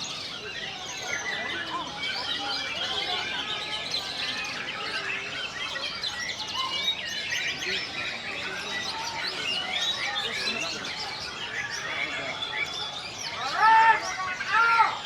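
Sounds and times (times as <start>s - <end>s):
caged songbirds singing: 0.0s - 15.0s.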